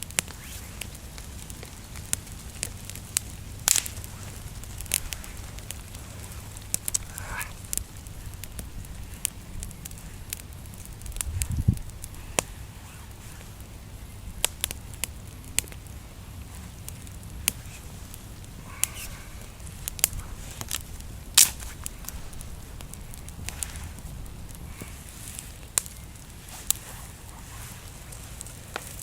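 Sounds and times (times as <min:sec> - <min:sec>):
low rumble: 0:00.0 - 0:28.8
campfire crackling and popping: 0:00.0 - 0:29.0.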